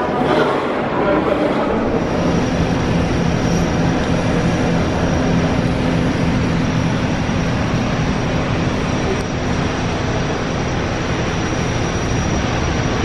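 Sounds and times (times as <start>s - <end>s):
bus engine drone and rumble: 0.0s - 13.0s
faint high whine: 0.0s - 13.0s.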